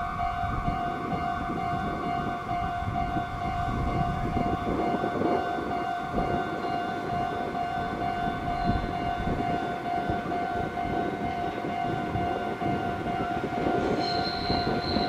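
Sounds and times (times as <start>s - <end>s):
distant electric train rumble: 0.0s - 15.0s
high ringing alarm tone: 0.0s - 15.0s.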